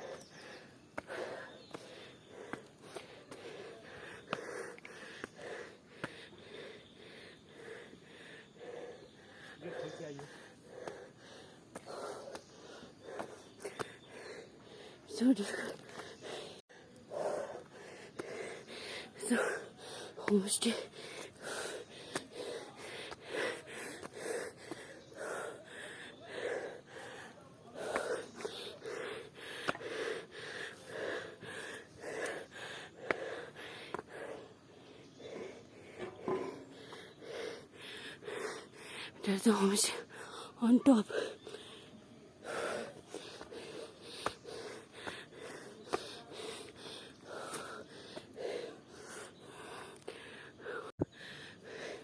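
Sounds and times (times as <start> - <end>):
person breathing hard: 0.0 - 52.0
woman panting heavily: 0.0 - 52.0.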